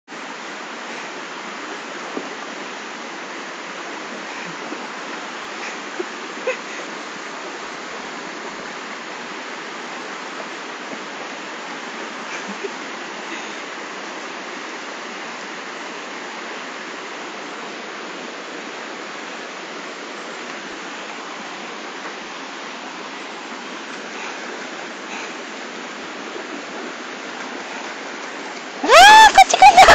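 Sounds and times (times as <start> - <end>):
waterfall rushing into pool: 0.1 - 29.9.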